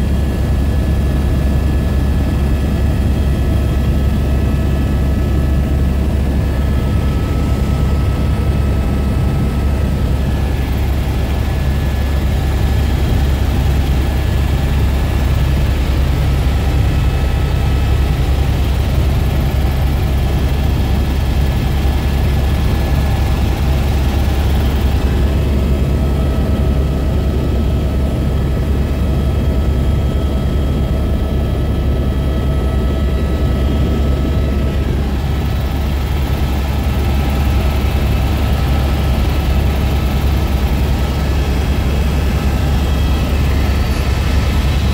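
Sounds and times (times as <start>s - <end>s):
helicopter cabin drone: 0.0s - 44.9s.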